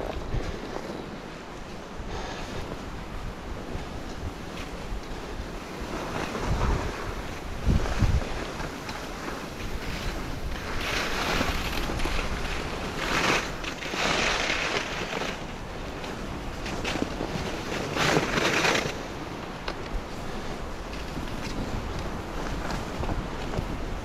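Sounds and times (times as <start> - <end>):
wind rumble on microphone: 0.0 - 24.0
skis hissing over snow: 0.1 - 24.0.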